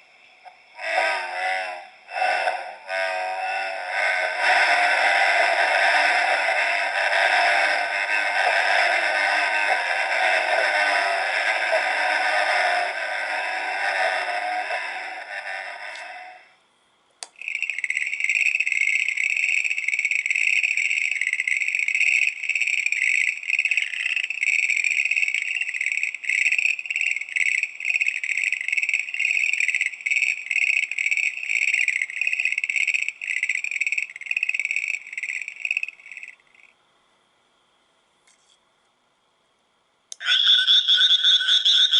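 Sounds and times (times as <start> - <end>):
toy playing frog call: 0.8 - 16.5, 17.2 - 36.7, 40.1 - 41.9.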